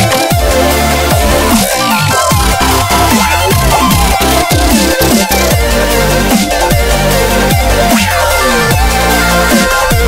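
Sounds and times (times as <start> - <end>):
electronic dance music: 0.0 - 10.0
gliding bass notes: 0.3 - 10.0.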